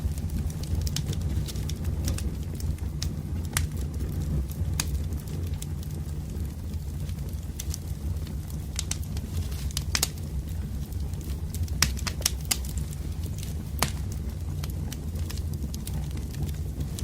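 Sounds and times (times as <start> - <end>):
low rumble of burning: 0.0 - 17.0
wood fire crackling and popping: 0.0 - 17.0.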